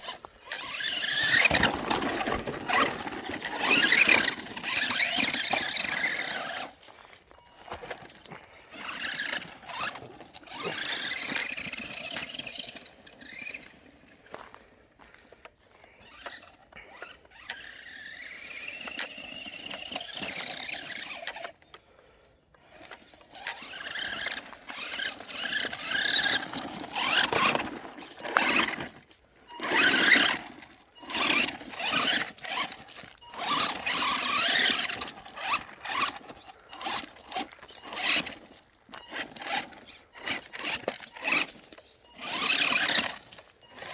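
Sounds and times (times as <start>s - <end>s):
electric motor whining: 0.0s - 6.9s, 7.5s - 14.0s, 16.0s - 21.7s, 22.6s - 43.9s
wheels scrabbling: 0.0s - 43.9s.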